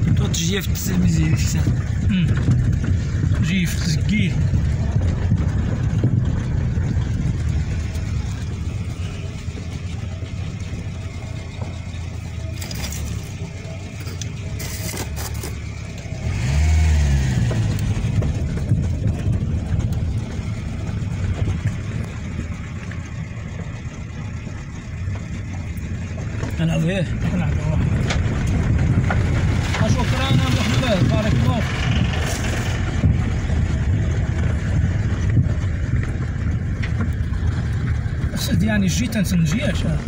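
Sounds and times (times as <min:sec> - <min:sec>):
engines running: 0:00.0 - 0:40.0
engine note rising: 0:03.3 - 0:35.6.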